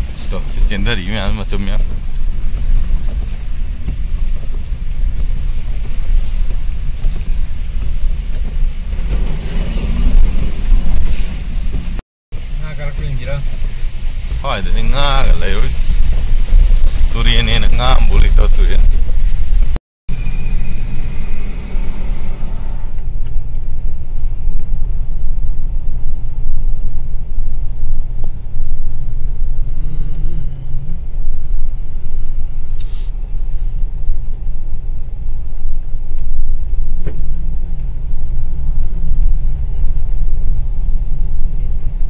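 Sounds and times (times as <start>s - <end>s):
car engine and road rumble: 0.0s - 42.0s.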